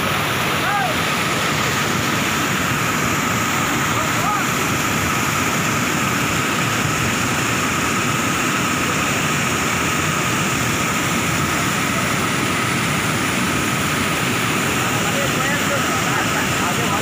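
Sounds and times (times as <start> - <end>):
water rushing over a weir: 0.0 - 17.0.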